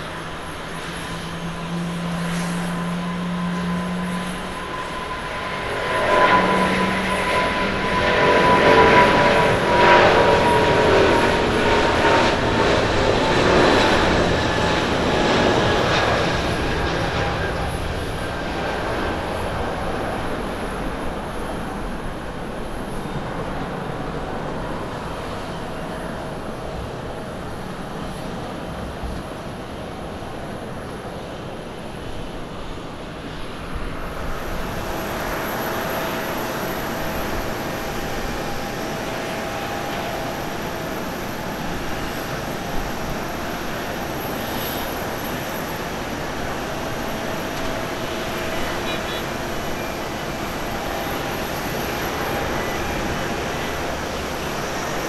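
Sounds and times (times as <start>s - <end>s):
jet engine takeoff roar: 0.0s - 55.0s
jet engines roaring: 0.0s - 55.0s
steady high whine: 0.0s - 55.0s.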